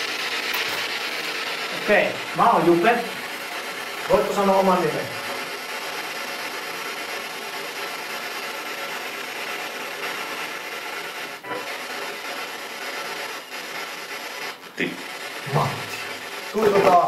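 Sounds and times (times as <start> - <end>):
radio static hissing: 0.0 - 17.0.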